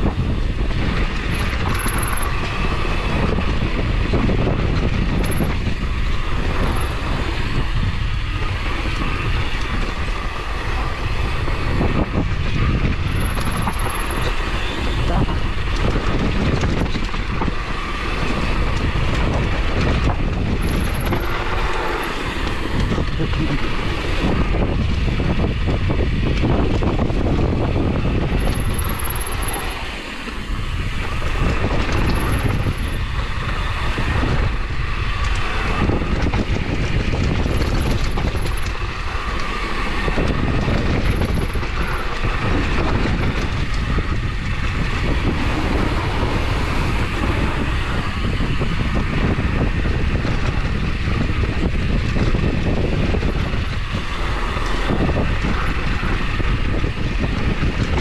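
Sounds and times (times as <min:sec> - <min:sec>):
bike tyres rattling on trail: 0:00.0 - 0:58.0
wind on microphone: 0:00.0 - 0:58.0.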